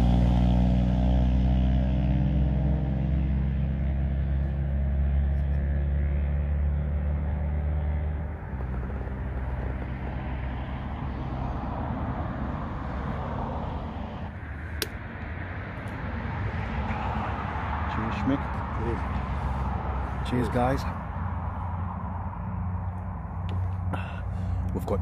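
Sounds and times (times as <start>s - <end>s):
low motor drone: 0.0s - 25.0s.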